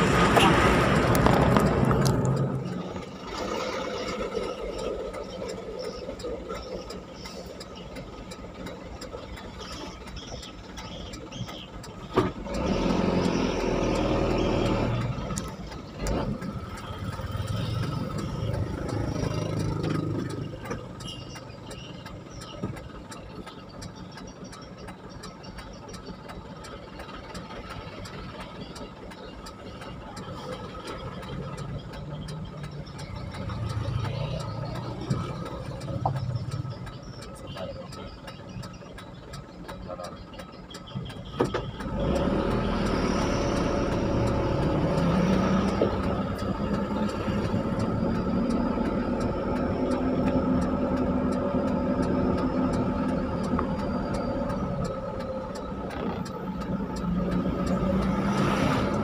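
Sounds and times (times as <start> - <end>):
road noise: 0.0 - 59.0
vehicle engines: 0.0 - 59.0
vehicles passing close by: 0.0 - 59.0.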